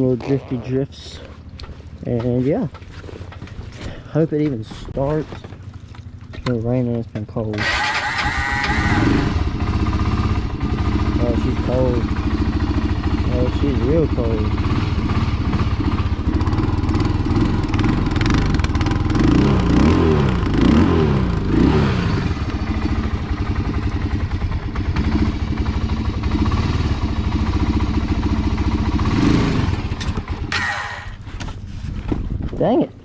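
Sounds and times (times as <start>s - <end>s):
atv engine revving and idling: 0.0s - 32.7s.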